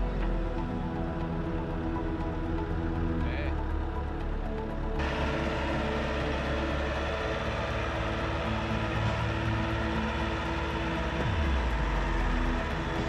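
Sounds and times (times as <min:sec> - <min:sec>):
trencher engine running: 0:00.0 - 0:13.0.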